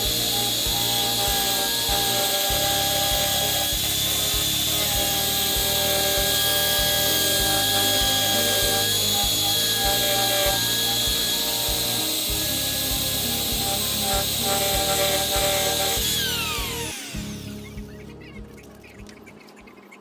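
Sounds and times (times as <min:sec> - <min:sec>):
wood lathe tool scraping: 0:00.0 - 0:18.6
background music with beat: 0:00.0 - 0:19.8.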